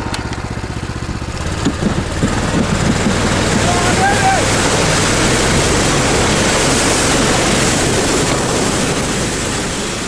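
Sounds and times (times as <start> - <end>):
sled runners sliding over snow: 0.0 - 10.0
small engine droning: 0.0 - 10.0
wind rushing: 1.6 - 10.0.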